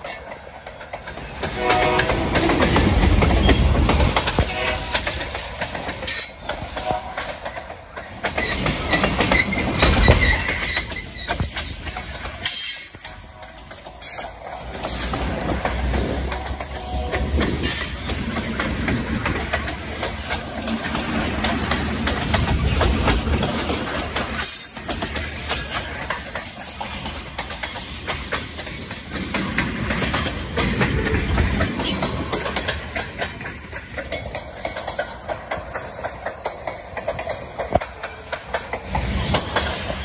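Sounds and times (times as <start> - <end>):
train wheels rumbling on rails: 0.0 - 40.0
wheels clacking over rail joints: 0.0 - 40.0.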